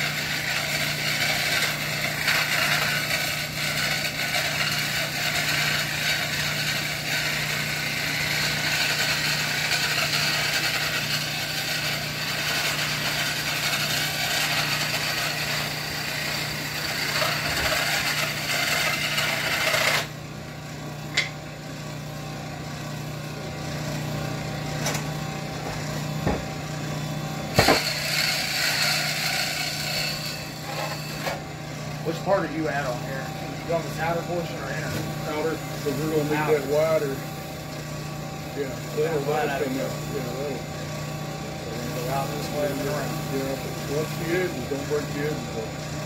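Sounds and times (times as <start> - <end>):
power tool hissing: 0.0 - 20.2, 25.9 - 46.0.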